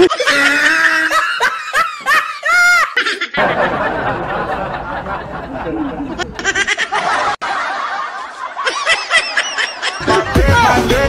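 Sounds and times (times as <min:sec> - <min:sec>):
people snickering and chuckling: 0:00.0 - 0:10.4.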